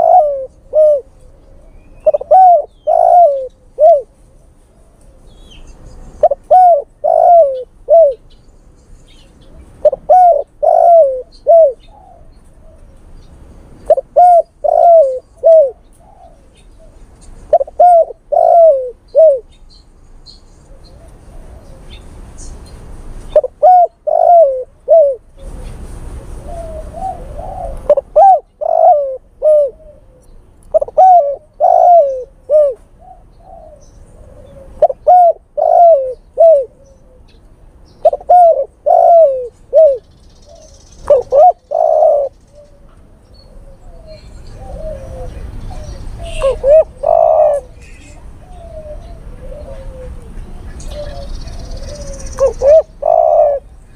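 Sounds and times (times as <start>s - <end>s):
dove cooing: 0.0s - 8.4s, 9.1s - 13.0s, 13.8s - 19.6s, 20.6s - 22.2s, 23.3s - 37.4s, 38.0s - 53.9s.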